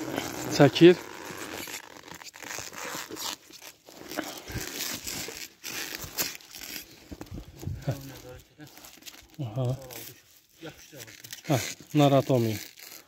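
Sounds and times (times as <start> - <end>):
stretch film crinkling: 0.0 - 13.0.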